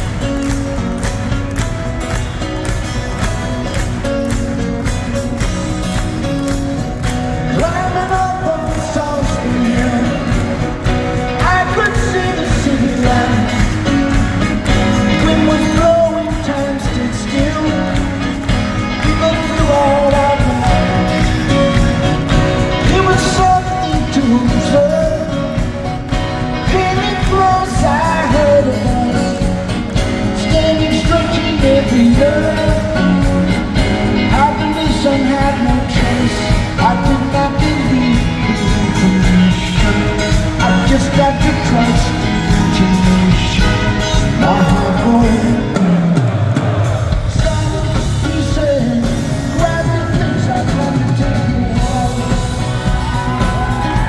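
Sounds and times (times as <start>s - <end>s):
live rock band: 0.0s - 54.0s
man singing: 3.7s - 54.0s.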